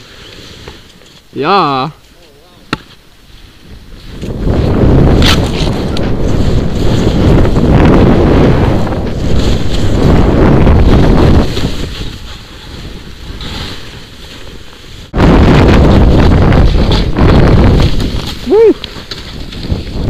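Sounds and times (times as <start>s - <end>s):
wind buffeting microphone: 3.2s - 20.0s.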